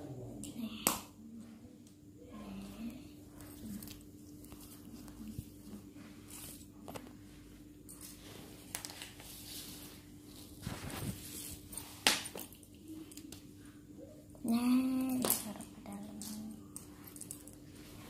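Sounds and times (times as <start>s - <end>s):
steady low hum: 0.0s - 18.0s
faint rustling and scraping: 1.4s - 14.0s, 14.8s - 18.0s.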